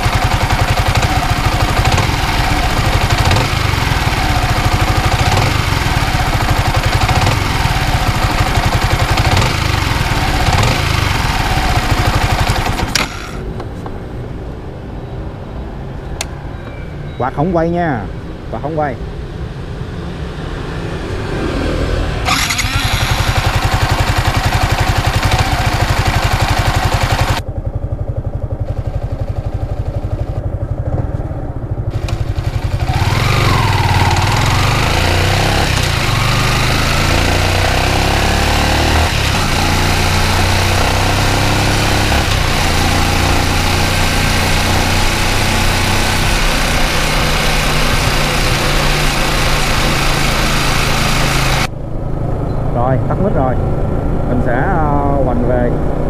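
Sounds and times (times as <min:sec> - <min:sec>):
motorbike engine idling and revving: 0:00.0 - 0:16.6, 0:19.1 - 0:56.0.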